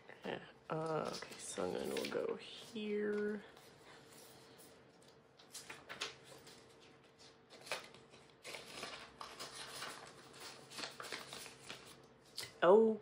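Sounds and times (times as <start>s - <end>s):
plastic sleeves crinkling: 0.7s - 4.3s, 5.0s - 12.6s.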